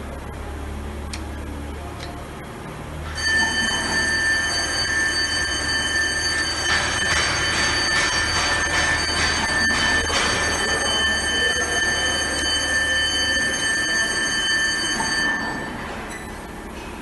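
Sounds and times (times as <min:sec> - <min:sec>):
high-pitched machine whine: 0:03.0 - 0:16.8.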